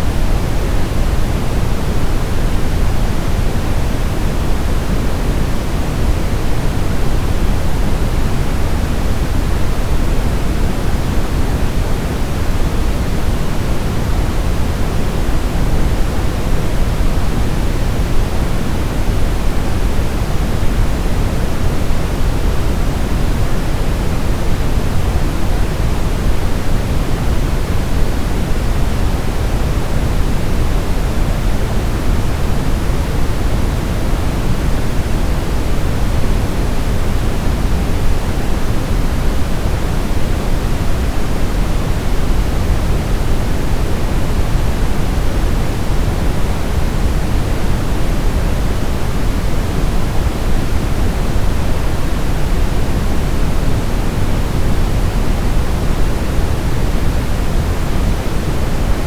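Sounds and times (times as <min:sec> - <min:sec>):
steady low white noise hiss: 0:00.0 - 0:59.0.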